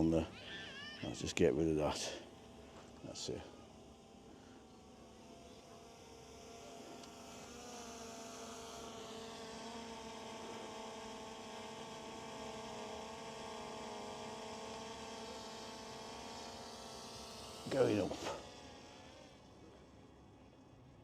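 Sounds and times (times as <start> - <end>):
drone propellers buzzing: 0.0 - 21.0.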